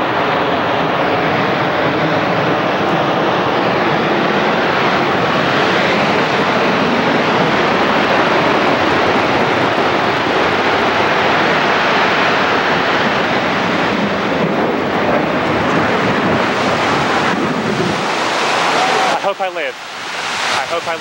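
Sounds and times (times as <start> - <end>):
building collapse roar: 0.0 - 19.5.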